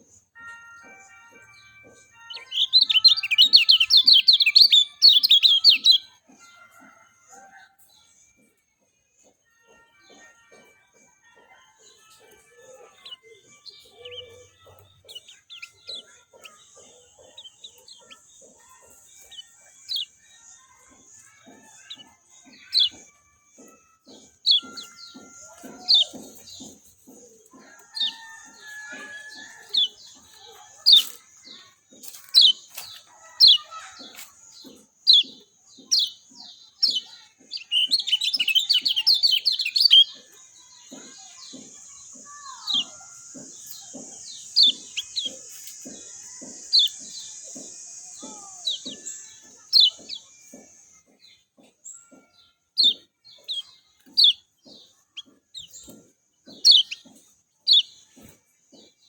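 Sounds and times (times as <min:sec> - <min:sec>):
bird chirping and chattering: 0:01.9 - 0:06.2, 0:11.8 - 0:59.0.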